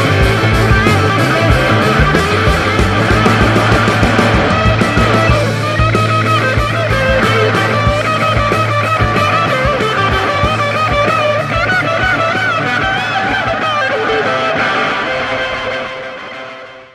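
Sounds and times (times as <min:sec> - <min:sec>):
rock music with electric guitar: 0:00.0 - 0:16.9.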